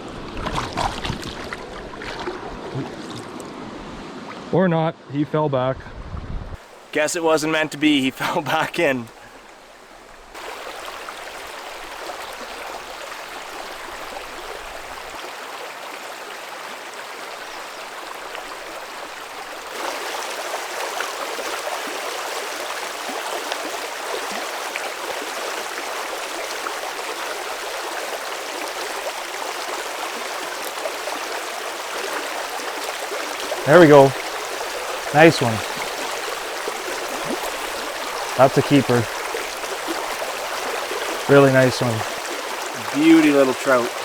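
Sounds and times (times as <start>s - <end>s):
creek water over rocks: 0.0s - 4.5s, 6.6s - 44.0s.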